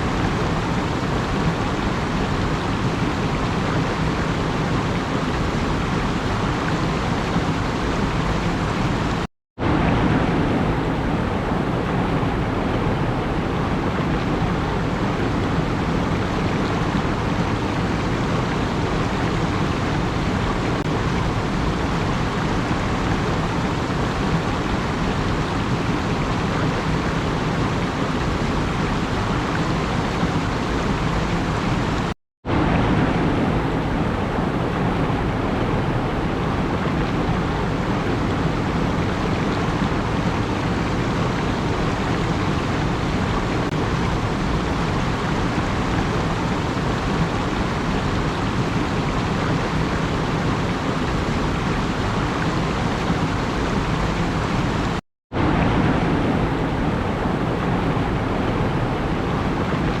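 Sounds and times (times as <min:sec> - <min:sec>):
steady rushing noise: 0:00.0 - 1:00.0.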